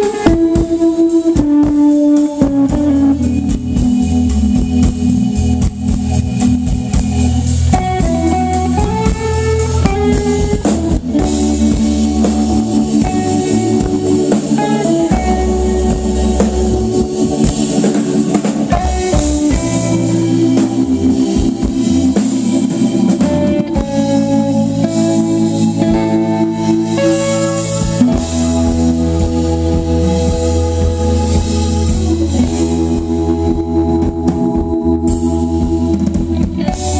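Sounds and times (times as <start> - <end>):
amplified electric guitar: 0.0 - 36.9
drum kit: 0.0 - 36.9.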